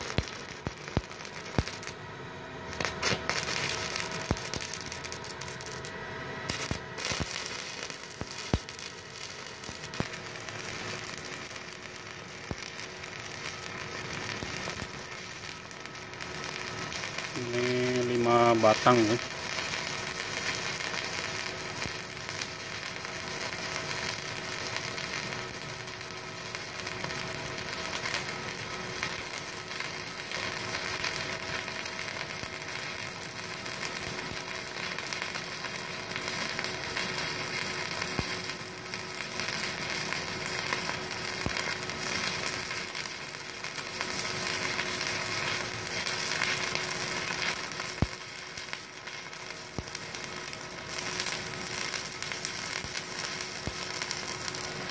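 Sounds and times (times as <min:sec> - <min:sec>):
welding arc pops: 0:00.0 - 0:02.0, 0:02.6 - 0:54.9
welding arc crackling sizzle: 0:00.0 - 0:54.9.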